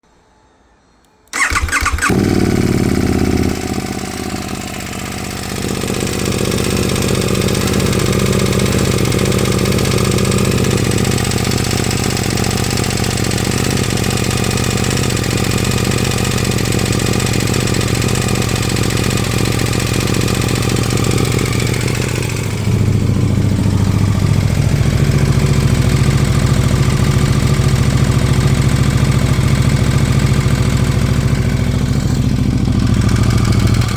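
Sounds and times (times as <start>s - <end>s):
motorcycle engine idling with rattle: 1.3s - 33.9s
motorcycle engine starting: 1.3s - 33.9s.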